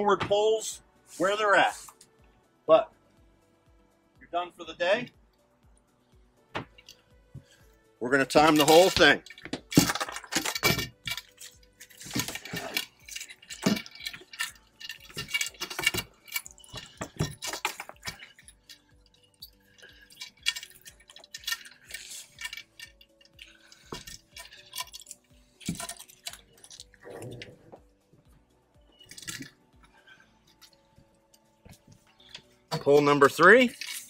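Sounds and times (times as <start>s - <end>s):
faint background music: 0.0s - 34.0s
metal poles clinking and knocking: 6.5s - 34.0s.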